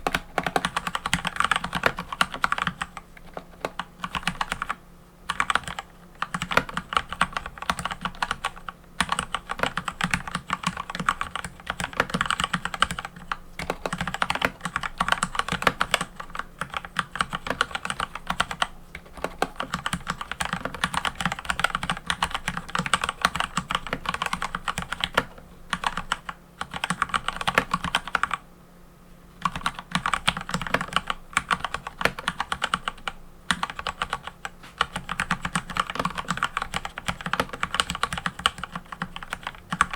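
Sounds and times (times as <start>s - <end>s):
mechanical keyboard typing: 0.0s - 28.4s, 29.4s - 39.9s.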